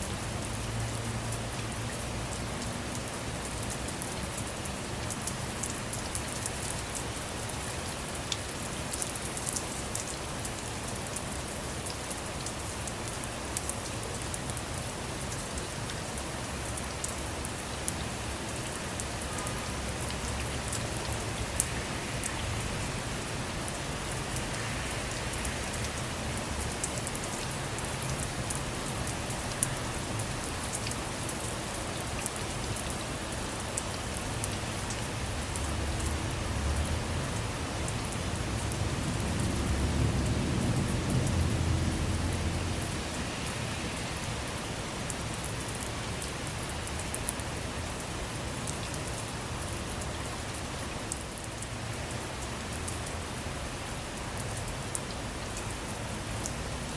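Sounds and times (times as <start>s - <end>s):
rain falling on a car: 0.0s - 56.9s.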